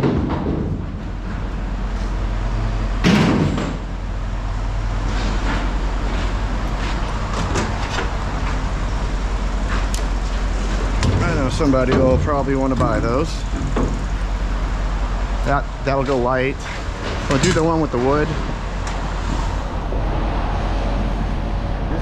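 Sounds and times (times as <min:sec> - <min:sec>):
engine idling: 0:00.7 - 0:22.0.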